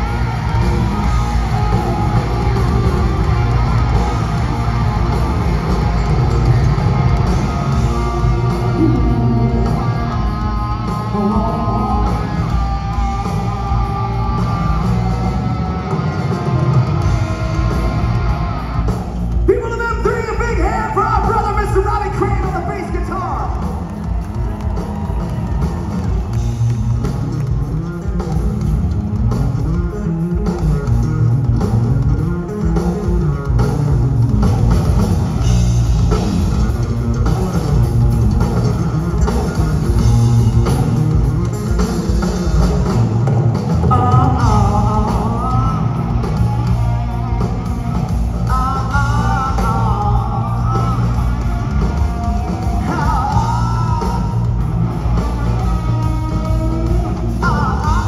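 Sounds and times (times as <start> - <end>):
high wavering lead guitar line: 0.0 - 58.0
live hard rock band: 0.0 - 58.0.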